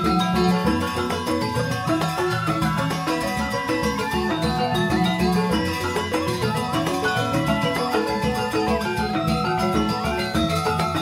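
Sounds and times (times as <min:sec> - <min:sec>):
interlocking pitched percussion: 0:00.0 - 0:11.0.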